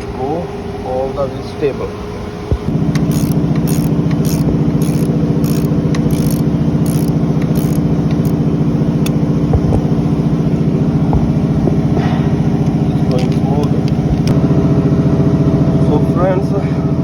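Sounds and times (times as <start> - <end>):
engine humming with pulsing beat: 2.5 - 17.0.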